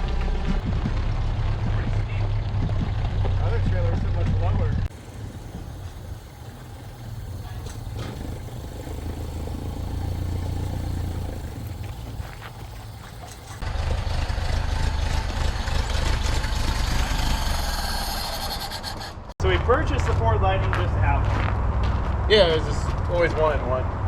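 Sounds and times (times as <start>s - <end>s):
road noise: 0.0s - 24.0s
truck engine droning: 0.0s - 24.0s.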